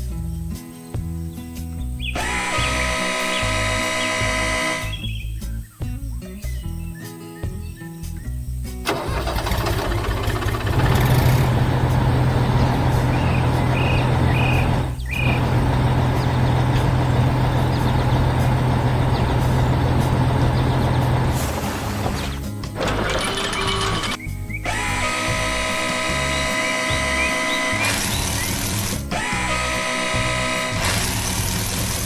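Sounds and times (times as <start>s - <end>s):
music: 0.0s - 9.5s, 11.8s - 32.0s
heavy vehicle engine humming: 2.0s - 5.2s, 8.8s - 32.0s.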